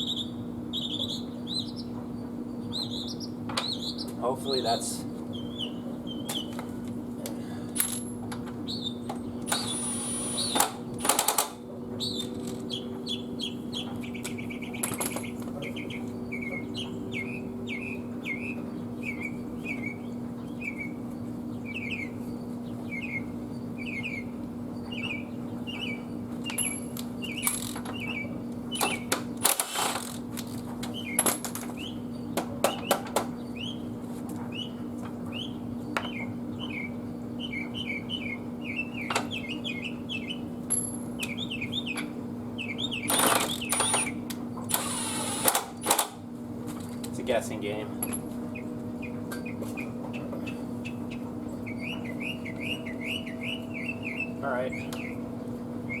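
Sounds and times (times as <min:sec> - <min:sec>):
bird chirping: 0:00.0 - 0:06.6, 0:08.6 - 0:10.6, 0:12.0 - 0:29.1, 0:30.9 - 0:40.6, 0:41.2 - 0:44.2, 0:48.5 - 0:56.0
steady low hum: 0:00.0 - 0:56.0.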